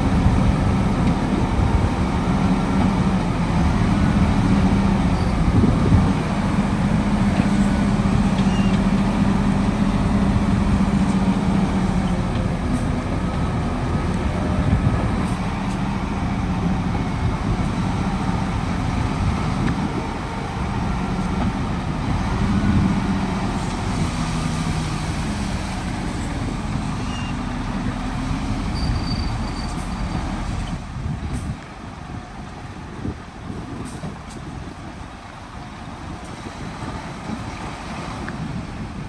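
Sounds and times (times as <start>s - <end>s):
heavy diesel machinery rumbling: 0.0s - 39.0s.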